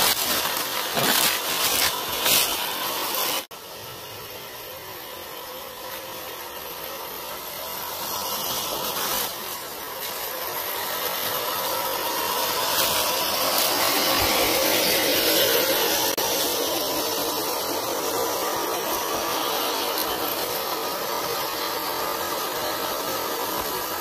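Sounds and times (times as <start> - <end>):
toy car motor and gears whirring: 0.0 - 24.0.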